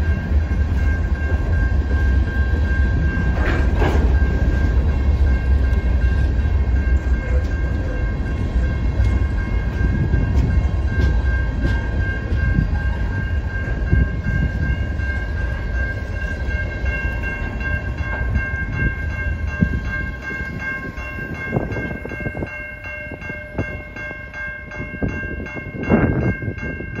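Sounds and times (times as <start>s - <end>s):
crossing bell dinging rapidly: 0.0s - 27.0s.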